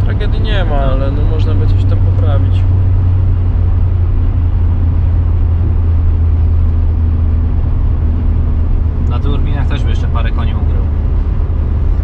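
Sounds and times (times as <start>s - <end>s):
diesel engine drone: 0.0s - 12.0s
road noise: 0.0s - 12.0s.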